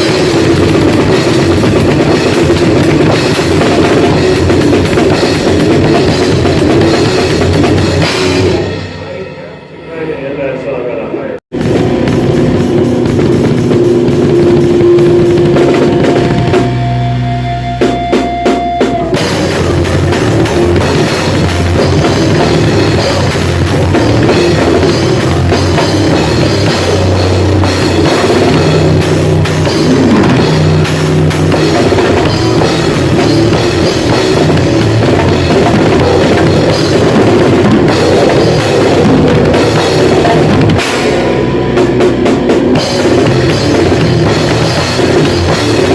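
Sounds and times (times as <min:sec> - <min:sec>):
bass guitar: 0:00.0 - 0:10.4, 0:11.5 - 0:45.9
distorted electric guitar: 0:00.0 - 0:45.9
drum kit: 0:00.0 - 0:45.9.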